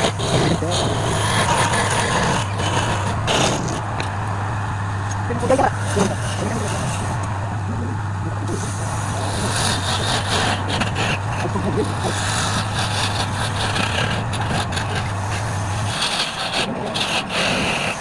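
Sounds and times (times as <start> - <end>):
tool scraping spinning wood: 0.0 - 18.0
wood lathe motor hum: 0.0 - 18.0.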